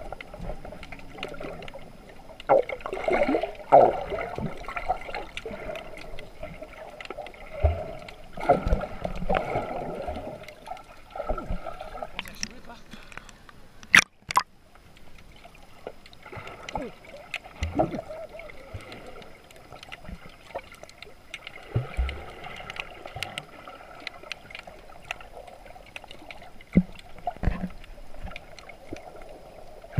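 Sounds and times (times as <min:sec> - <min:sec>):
small clicks and low thuds: 0:00.0 - 0:02.8, 0:04.2 - 0:18.0, 0:18.8 - 0:29.9
muffled water sloshing and bubbling: 0:00.0 - 0:29.9.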